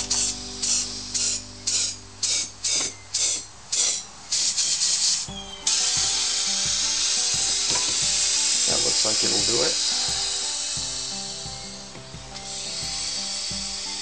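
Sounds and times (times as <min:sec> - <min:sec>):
compressed air hissing: 0:00.0 - 0:14.0.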